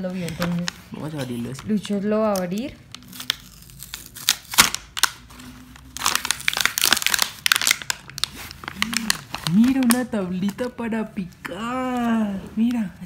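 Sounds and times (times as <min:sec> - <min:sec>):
plastic packaging tearing and crinkling: 0:00.2 - 0:10.8.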